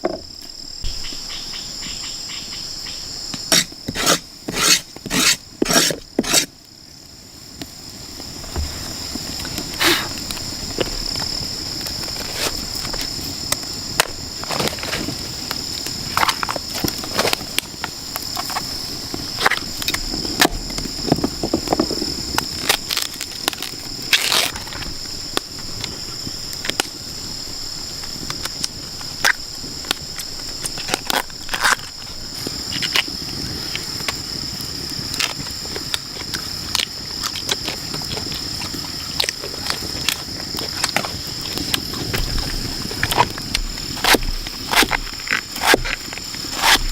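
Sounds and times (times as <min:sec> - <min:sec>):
rainforest insect chorus: 0:00.0 - 0:46.9.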